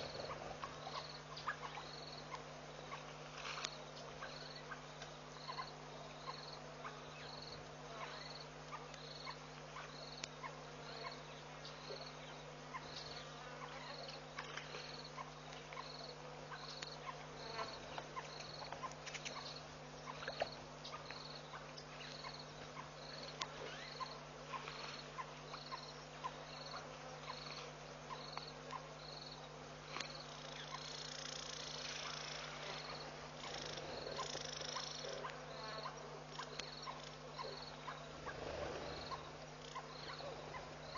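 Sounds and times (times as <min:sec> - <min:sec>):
insect chirping: 0:00.0 - 0:40.9
steady low hum: 0:00.0 - 0:40.9.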